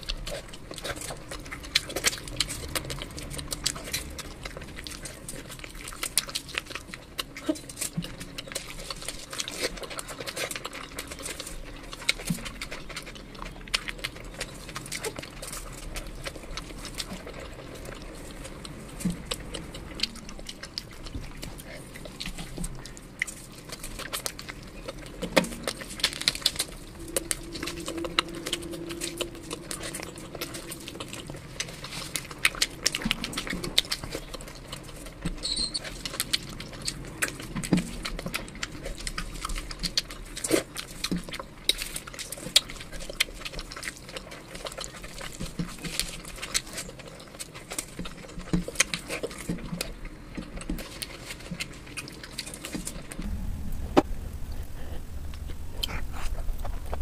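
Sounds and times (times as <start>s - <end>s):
chewing and wet mouth smacks: 0.0s - 53.3s.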